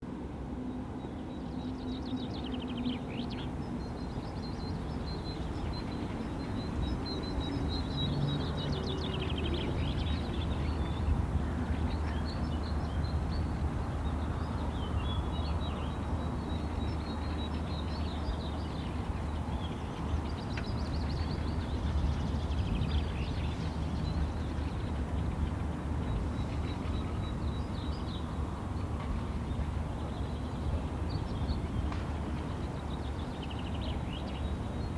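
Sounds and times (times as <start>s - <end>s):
wild birds chirping: 1.0s - 34.9s.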